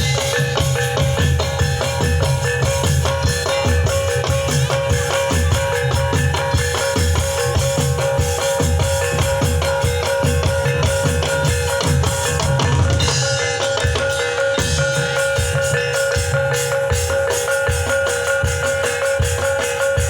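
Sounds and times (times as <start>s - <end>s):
drums beating: 0.0s - 20.0s
gamelan ensemble playing: 0.0s - 20.0s.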